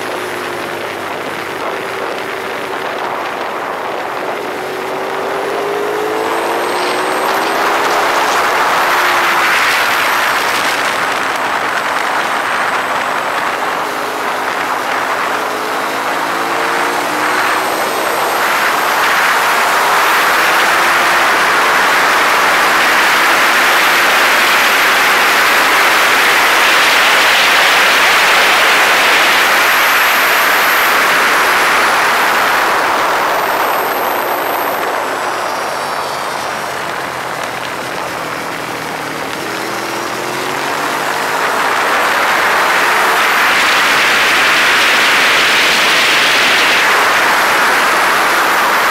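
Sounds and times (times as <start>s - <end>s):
loud wind noise: 0.0s - 48.9s
motorcycle engine revving: 0.0s - 48.9s.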